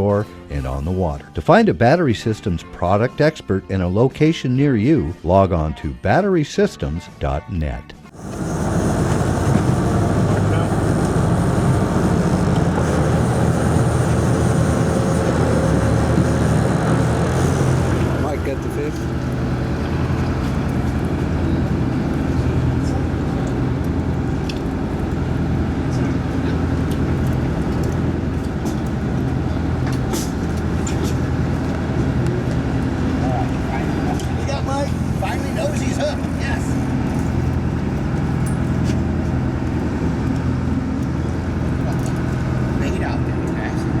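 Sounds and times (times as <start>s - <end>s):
boat engine droning: 8.1s - 44.0s.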